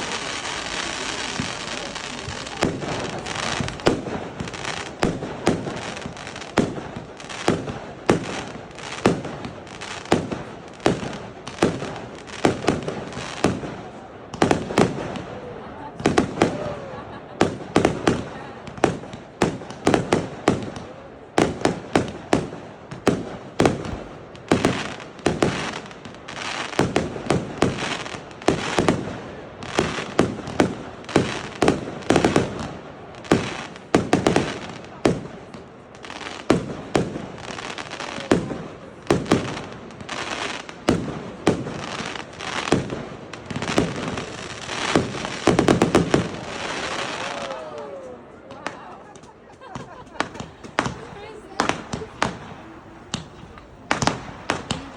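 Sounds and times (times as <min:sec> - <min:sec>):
fireworks crackling: 0:00.0 - 0:54.9
fireworks exploding: 0:00.0 - 0:54.9.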